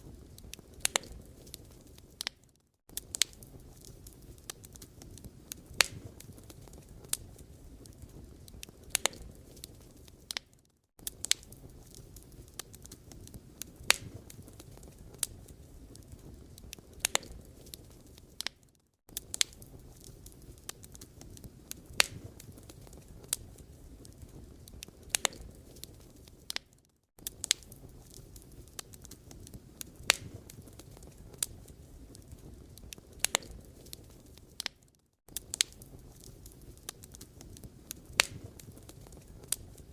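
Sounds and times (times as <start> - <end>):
fire hissing and rumbling: 0.0 - 39.9
firewood crackling: 0.0 - 39.9.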